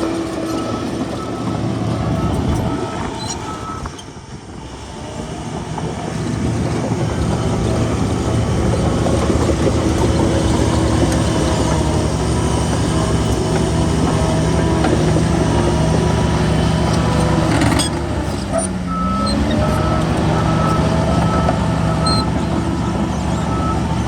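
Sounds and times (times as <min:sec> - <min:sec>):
diesel machinery engine hum: 0:00.0 - 0:24.0.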